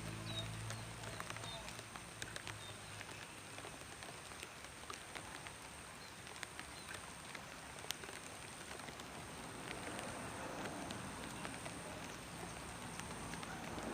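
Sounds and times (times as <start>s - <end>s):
drops ticking on surfaces: 0.0s - 13.9s
light rain falling: 0.0s - 13.9s.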